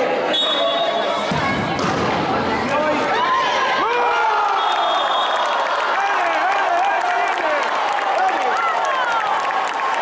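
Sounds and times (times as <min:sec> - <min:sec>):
spectators cheering and yelling: 0:00.0 - 0:10.0.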